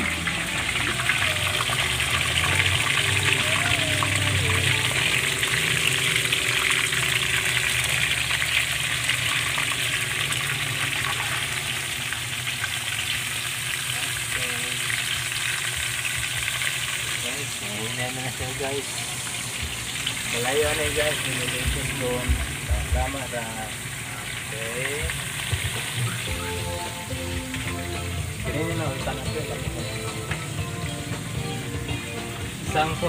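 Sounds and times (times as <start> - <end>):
squid sizzling in hot oil: 0.0 - 29.5.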